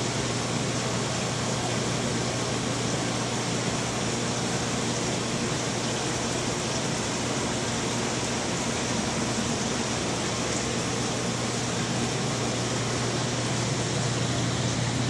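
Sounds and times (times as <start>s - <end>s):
pump hum: 0.0s - 15.0s
water rushing: 0.1s - 15.0s.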